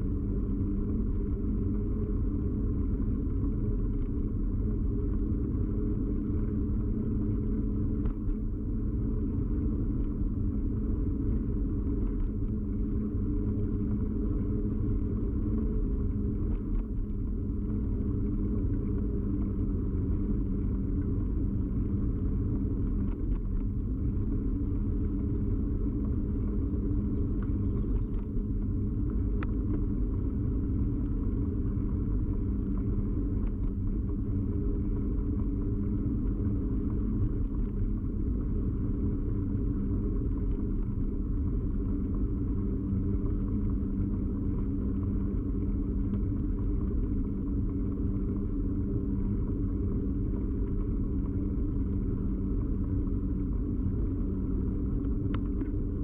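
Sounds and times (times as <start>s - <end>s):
bicycle tyre and frame rumble: 0.0s - 56.0s.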